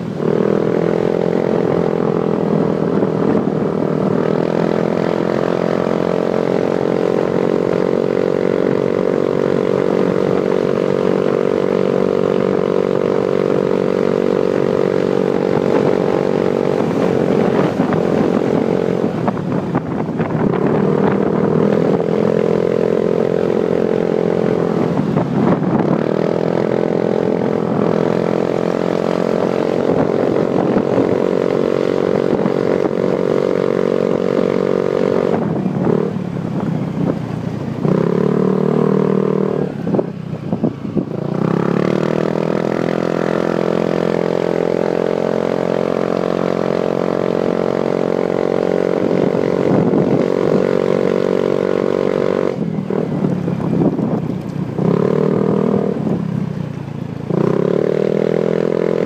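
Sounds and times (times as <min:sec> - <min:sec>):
motorcycle engine: 0:00.0 - 0:59.0
wind rushing over microphone: 0:00.0 - 0:59.0.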